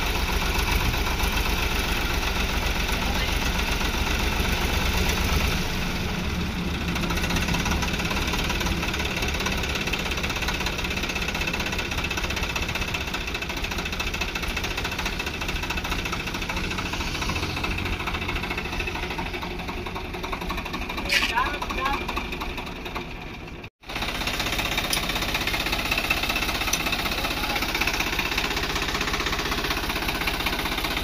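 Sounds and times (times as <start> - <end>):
tractor diesel engine idling: 0.0 - 31.0.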